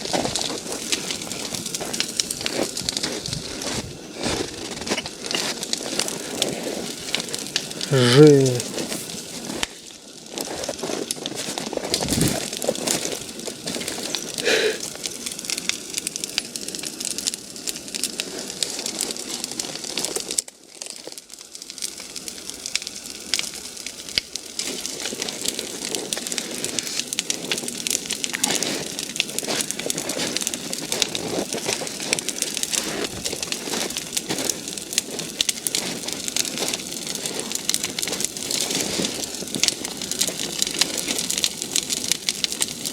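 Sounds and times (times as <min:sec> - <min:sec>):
bonfire crackling and popping: 0:00.0 - 0:42.9.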